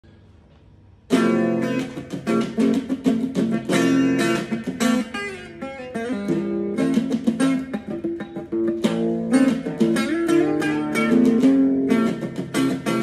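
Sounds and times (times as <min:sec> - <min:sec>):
plucked guitar-like music: 0:01.1 - 0:13.0.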